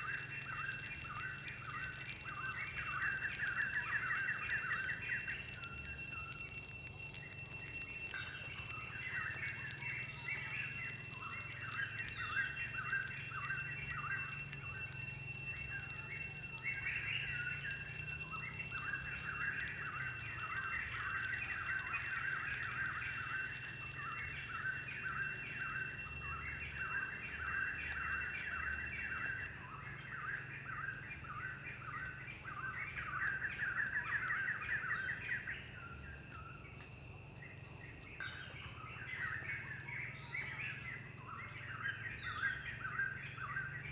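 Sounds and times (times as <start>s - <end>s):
steady high-pitched whine: 0.0s - 43.9s.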